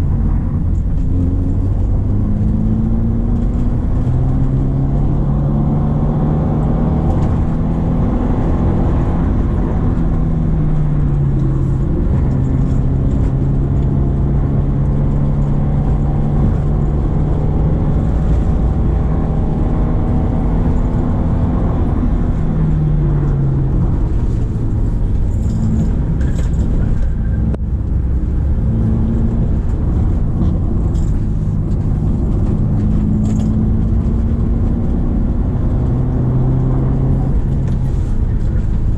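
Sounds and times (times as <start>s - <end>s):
car engine pulling uphill: 0.0s - 38.9s.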